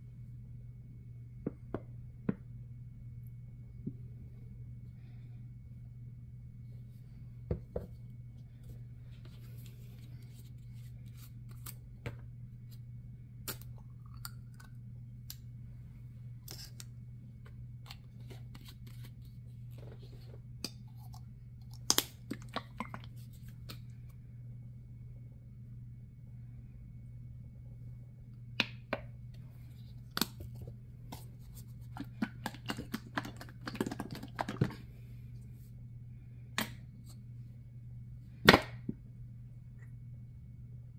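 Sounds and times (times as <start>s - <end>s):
low room hum: 0.0s - 40.9s.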